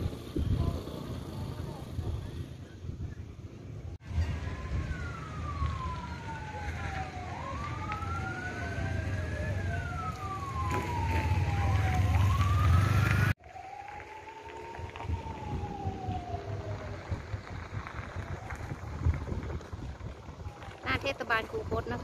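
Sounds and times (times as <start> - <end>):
emergency sirens wailing: 4.0 - 22.0.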